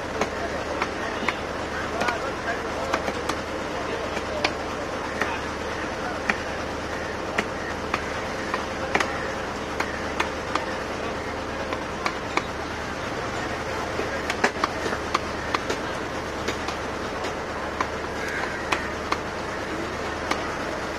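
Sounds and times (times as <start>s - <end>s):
steady background noise: 0.0s - 20.9s.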